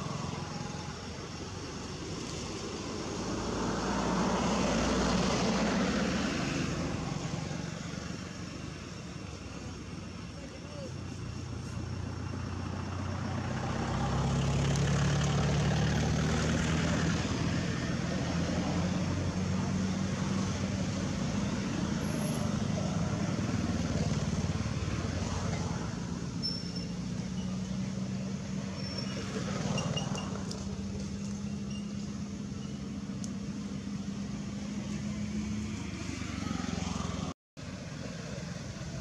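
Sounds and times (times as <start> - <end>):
engine humming steadily: 0.0 - 39.0.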